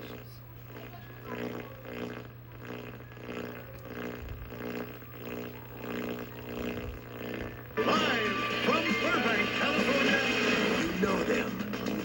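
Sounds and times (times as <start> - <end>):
pulsing buzzy sound: 0.0 - 12.0.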